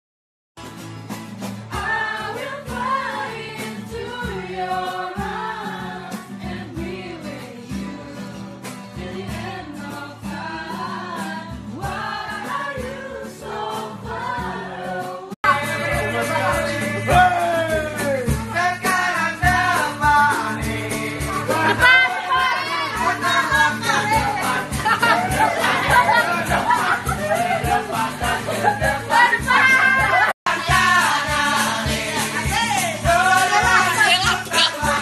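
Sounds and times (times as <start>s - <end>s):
voices singing with instruments: 1.4s - 35.0s.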